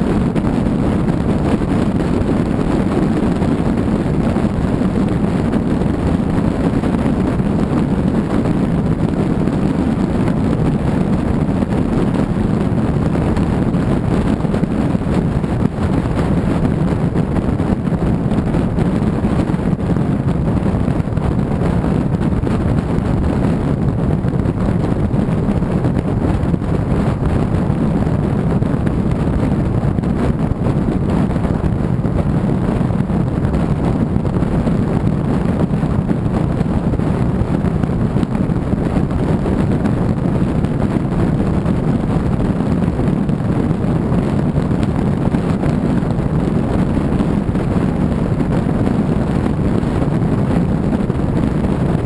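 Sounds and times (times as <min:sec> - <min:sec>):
car tyre and engine noise: 0:00.0 - 0:52.0
wind on microphone: 0:00.0 - 0:52.0.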